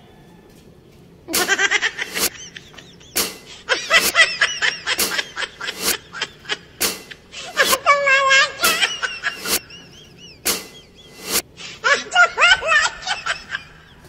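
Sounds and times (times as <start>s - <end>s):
person laughing: 1.3s - 14.0s.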